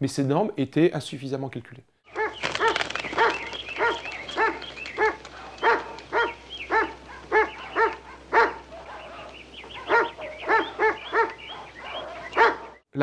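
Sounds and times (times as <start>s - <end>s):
dog barking: 2.1s - 12.8s.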